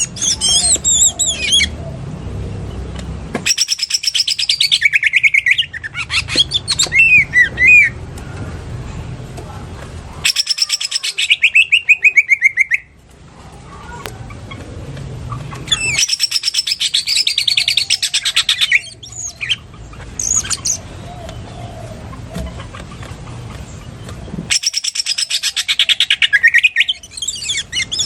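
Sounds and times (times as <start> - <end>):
bird chattering trills: 0.0 - 2.8, 3.4 - 8.0, 10.2 - 13.0, 13.6 - 28.0.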